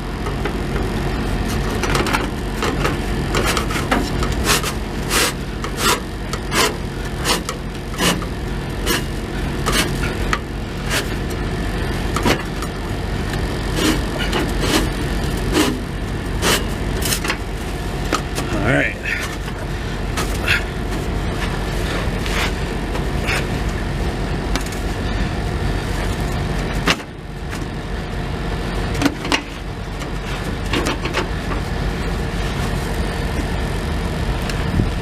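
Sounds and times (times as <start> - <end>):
low vehicle rumble: 0.0 - 35.0.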